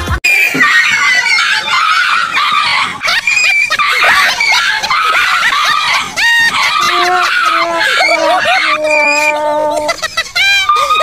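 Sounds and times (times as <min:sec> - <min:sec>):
people shrieking and screaming: 0:00.3 - 0:11.0
dog yelping: 0:00.6 - 0:10.0.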